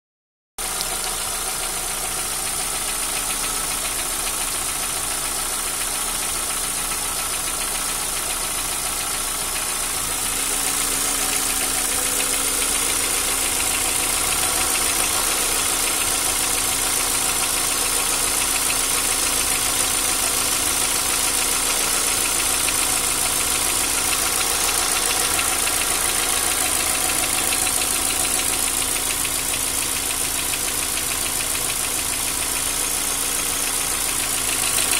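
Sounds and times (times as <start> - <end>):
car engine idling: 0.6 - 34.9
lifter ticking: 0.7 - 34.9.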